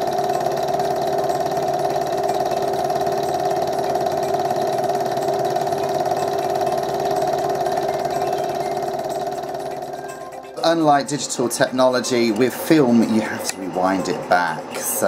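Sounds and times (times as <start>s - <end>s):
film projector motor whirring: 0.0s - 15.0s.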